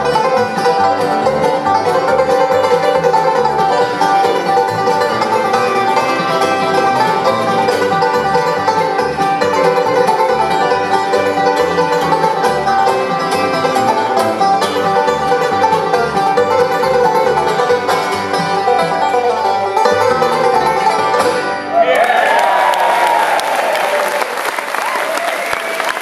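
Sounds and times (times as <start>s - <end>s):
plucked upright bass: 0.0s - 21.7s
acoustic guitar: 0.0s - 21.8s
banjos playing: 0.0s - 21.9s
mandolin: 0.0s - 22.0s.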